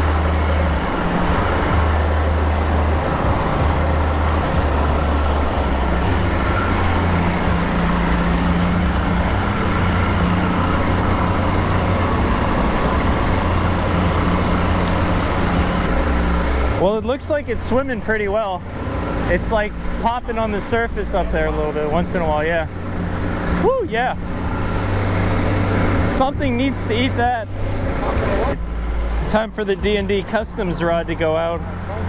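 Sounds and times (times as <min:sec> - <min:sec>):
outboard motor running: 0:00.0 - 0:32.0
rushing wake water: 0:00.0 - 0:32.0.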